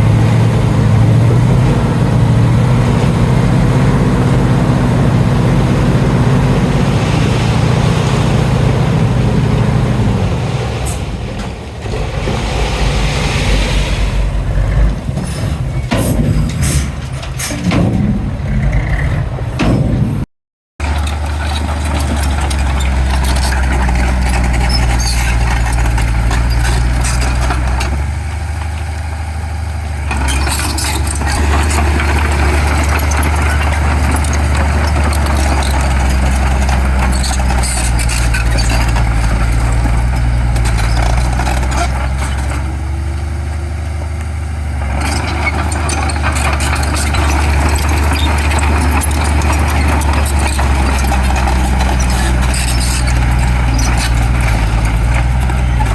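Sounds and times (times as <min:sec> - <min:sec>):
diesel earthmoving machinery running: 0:00.0 - 0:55.9.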